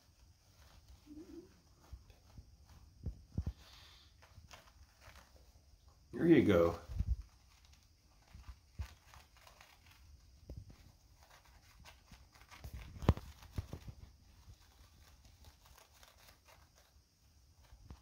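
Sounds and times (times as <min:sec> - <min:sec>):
paper rustling and crumpling: 0:00.0 - 0:18.0.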